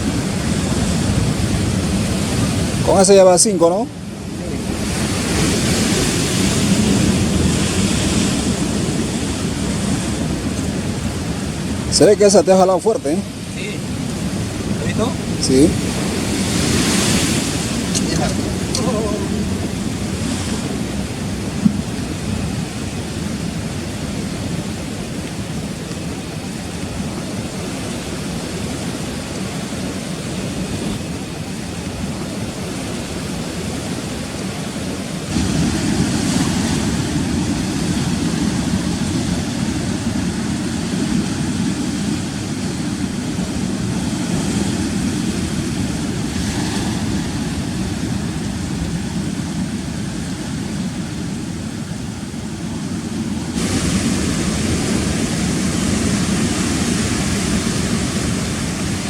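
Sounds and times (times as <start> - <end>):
rough sea surf: 0.0 - 59.0
wind on microphone: 0.0 - 59.0.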